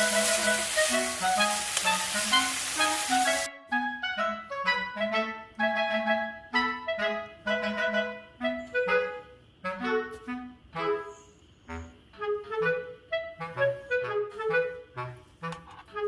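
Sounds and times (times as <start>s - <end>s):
light melody background music: 0.0s - 16.0s.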